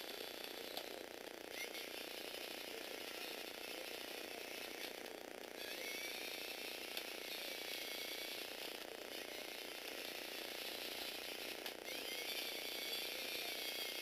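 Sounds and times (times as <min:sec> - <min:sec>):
toy truck motor whirring: 0:00.0 - 0:14.0.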